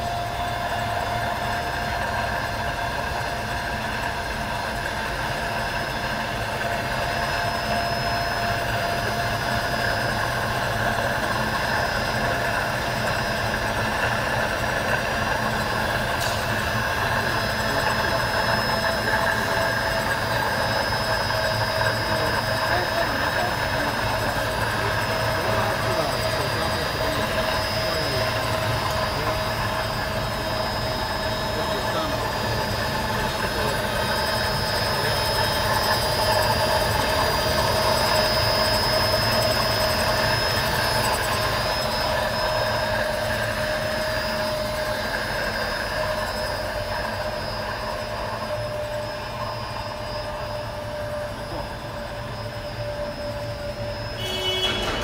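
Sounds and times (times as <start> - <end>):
machine hum with high whine: 0.0 - 55.0.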